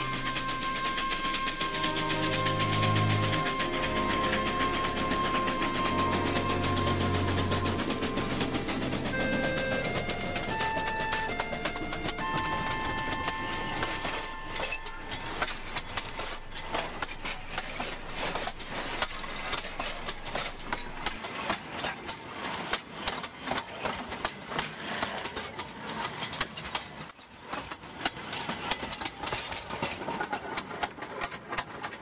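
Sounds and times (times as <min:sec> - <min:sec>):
freight wagons rumbling past: 0:00.0 - 0:32.0
rapid irregular clicks: 0:00.0 - 0:32.0.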